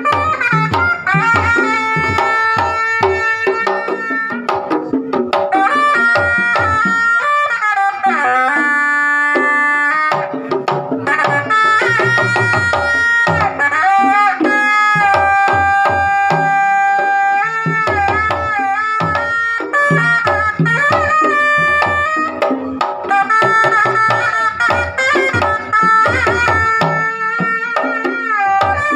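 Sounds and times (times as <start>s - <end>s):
reedy horn playing melody: 0.0s - 4.5s, 5.5s - 28.9s
hand drums beating: 0.0s - 28.9s.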